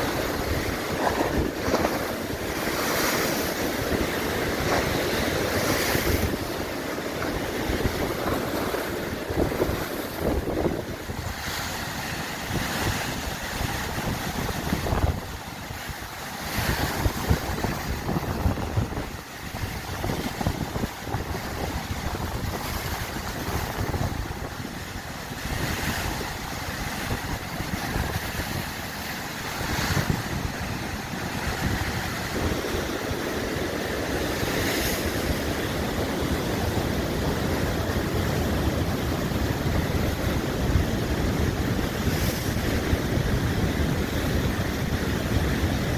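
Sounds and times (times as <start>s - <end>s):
sea waves washing ashore: 0.0s - 45.9s
wind buffeting microphone: 0.0s - 45.9s.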